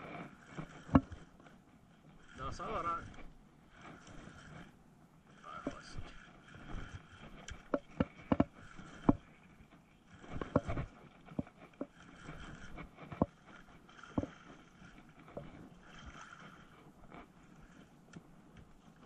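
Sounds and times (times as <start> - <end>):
fishing reel gear whir: 0.0 - 19.0
rod and reel clicks and knocks: 0.0 - 19.0.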